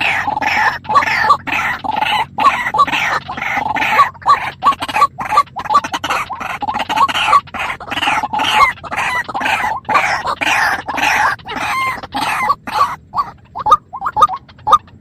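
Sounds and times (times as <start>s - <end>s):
bird squawking and chirping: 0.0s - 15.0s.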